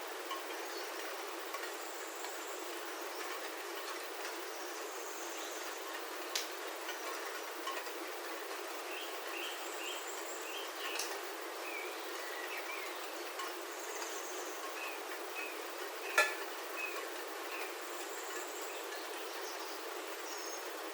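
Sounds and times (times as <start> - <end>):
rain on a roof: 0.0 - 20.9
birds chirping: 0.4 - 7.8, 8.7 - 20.9.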